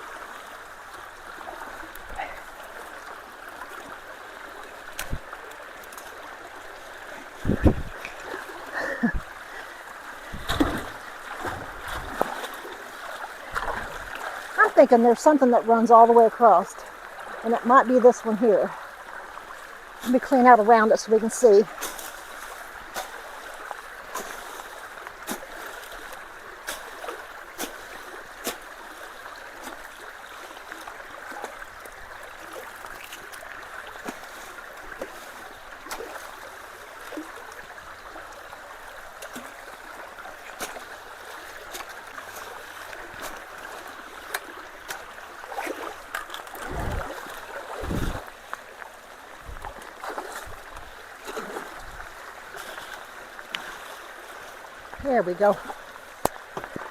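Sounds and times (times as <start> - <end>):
water rushing through culvert: 0.0 - 56.9.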